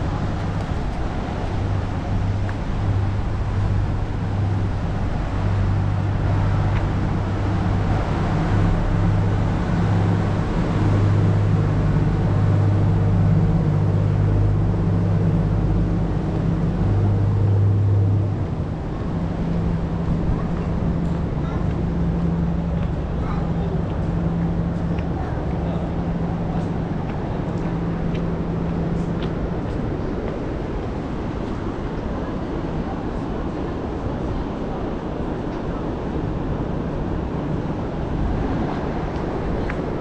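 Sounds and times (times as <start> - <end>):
engine humming: 0.0 - 40.0
outdoor background noise: 0.0 - 40.0.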